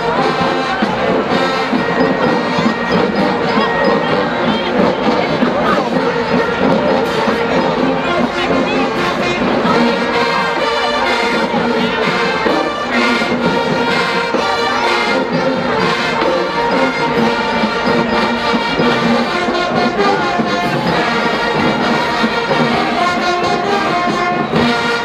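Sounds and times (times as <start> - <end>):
marching band brass playing: 0.0 - 25.0.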